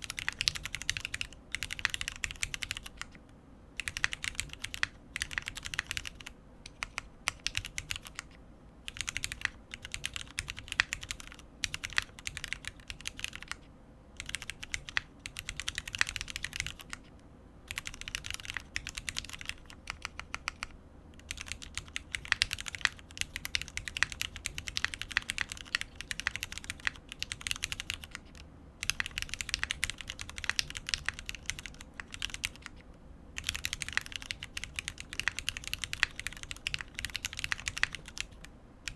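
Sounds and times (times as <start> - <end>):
typing on mechanical keyboard: 0.0 - 3.2, 3.8 - 13.6, 14.2 - 17.1, 17.7 - 32.8, 33.4 - 38.9.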